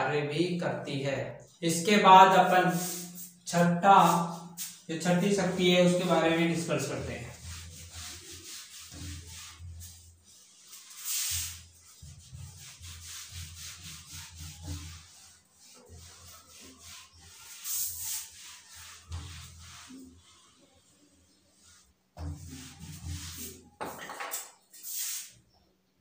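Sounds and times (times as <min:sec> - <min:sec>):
eraser rubbing on whiteboard: 0:04.0 - 0:25.3.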